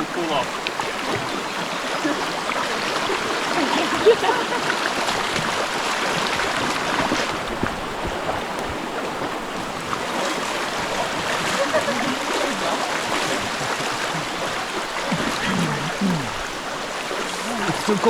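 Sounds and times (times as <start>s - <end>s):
river water rushing over stones: 0.0s - 18.0s.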